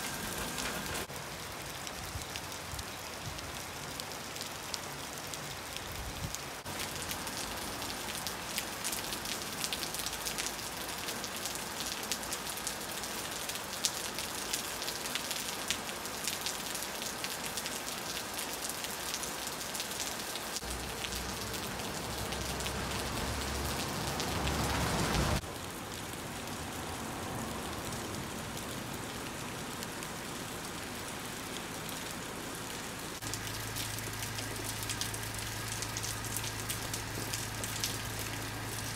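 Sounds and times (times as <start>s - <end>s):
rain dripping off roof: 0.0s - 38.9s.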